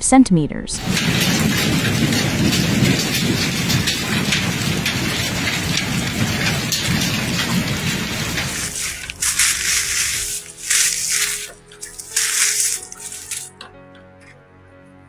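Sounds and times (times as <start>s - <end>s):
low rumble: 0.8s - 13.5s
hail and heavy rain pelting: 0.8s - 13.6s.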